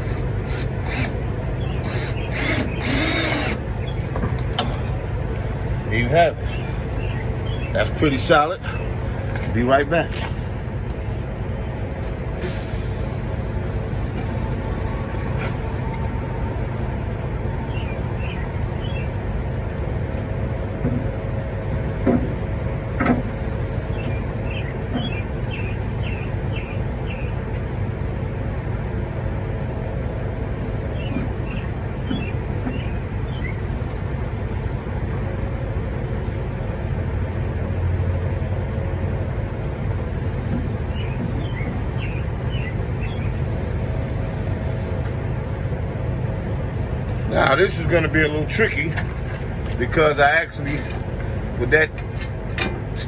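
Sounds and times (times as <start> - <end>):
low engine-like rumble: 0.0 - 53.0.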